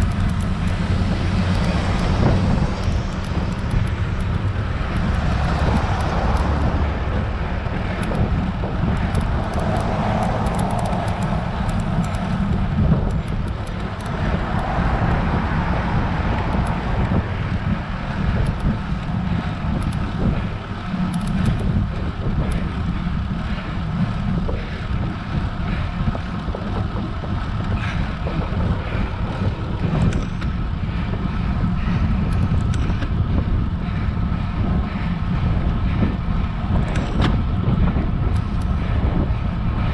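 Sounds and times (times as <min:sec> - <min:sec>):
road and traffic noise: 0:00.0 - 0:39.9
wind rumbling on microphone: 0:00.0 - 0:39.9.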